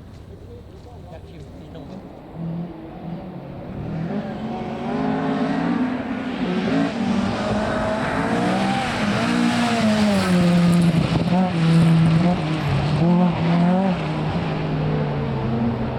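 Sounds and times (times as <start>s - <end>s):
rally car engine revving: 2.2s - 15.9s.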